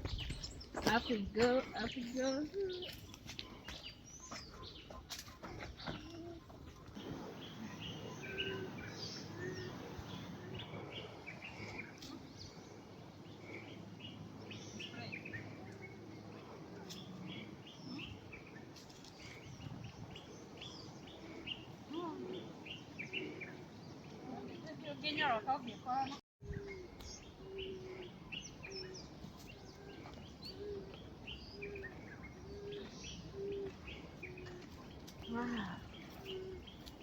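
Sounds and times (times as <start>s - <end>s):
people walking through vegetation: 0.0s - 13.2s, 14.8s - 26.0s, 28.5s - 37.0s
small birds chirping: 0.0s - 37.0s.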